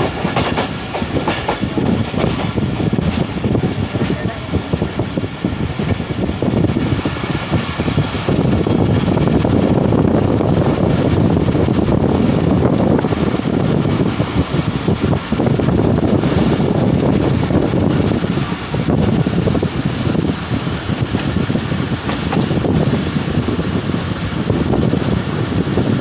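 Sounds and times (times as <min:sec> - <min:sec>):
train rumble from on board: 0:00.0 - 0:26.0.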